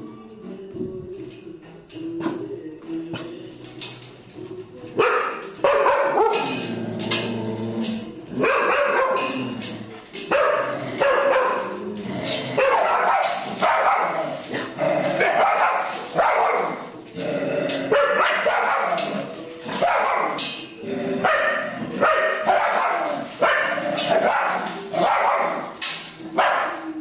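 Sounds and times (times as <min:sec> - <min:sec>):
dogs barking: 0:05.0 - 0:27.0.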